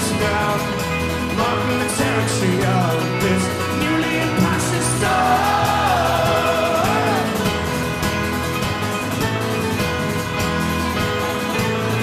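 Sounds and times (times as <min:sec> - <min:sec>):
picked banjo: 0:00.0 - 0:12.0
steady drums: 0:00.0 - 0:12.0
strummed acoustic guitar: 0:00.0 - 0:12.0
upright double bass: 0:00.0 - 0:12.0.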